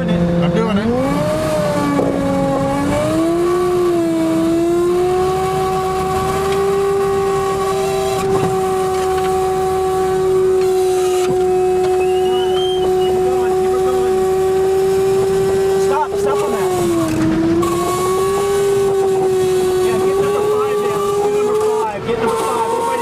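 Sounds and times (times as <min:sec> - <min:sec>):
hydraulic mechanical whine: 0:00.8 - 0:23.0.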